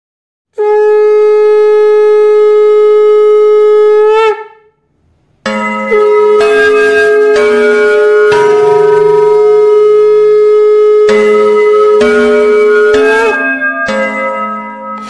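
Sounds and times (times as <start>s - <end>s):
conch shell blown: 0.5s - 4.9s, 5.8s - 15.0s
music with long held note: 0.6s - 4.6s, 5.4s - 15.0s.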